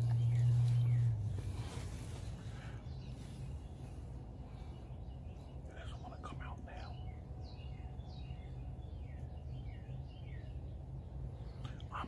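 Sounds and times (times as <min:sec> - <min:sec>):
low background rumble: 0:00.0 - 0:12.0
small birds chirping: 0:00.0 - 0:12.0.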